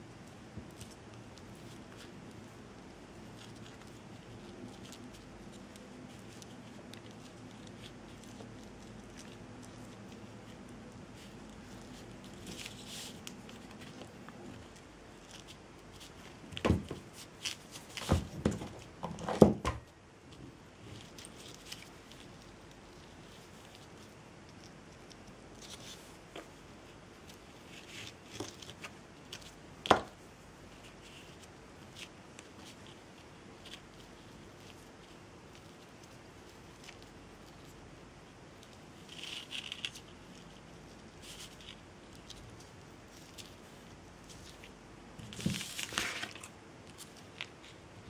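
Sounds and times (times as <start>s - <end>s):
soft ticks and rustles: 0.0s - 19.0s, 19.9s - 48.0s.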